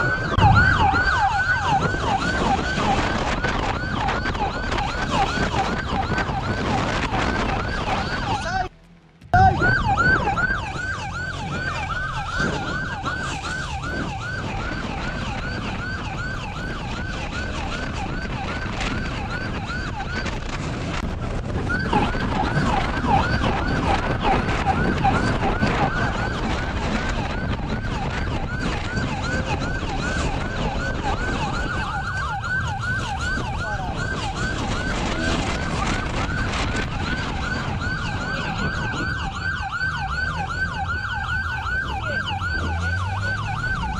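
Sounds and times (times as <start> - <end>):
police siren yelping: 0.0 - 8.7, 9.3 - 43.9
car engine and road noise: 0.0 - 43.9.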